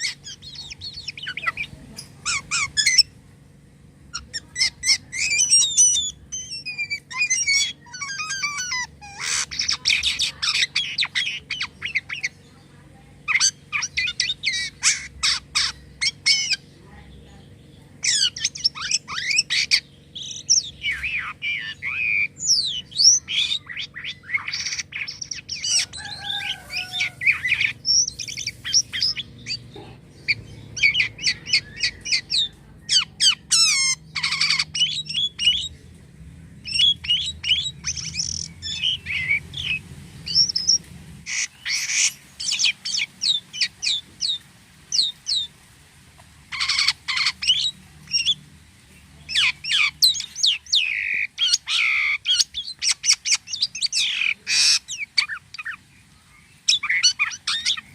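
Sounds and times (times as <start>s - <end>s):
starling singing: 0.0s - 45.5s, 46.2s - 57.9s.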